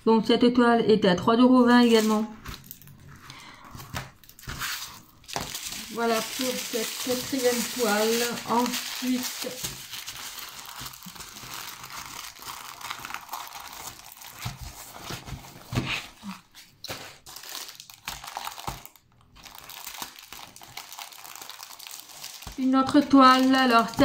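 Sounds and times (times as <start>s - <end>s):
plastic and paper crinkling: 1.8s - 24.0s.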